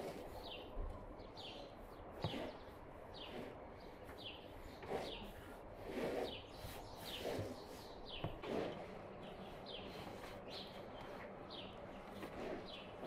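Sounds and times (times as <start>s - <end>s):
small bird chirping: 0.0s - 5.5s, 6.2s - 13.0s.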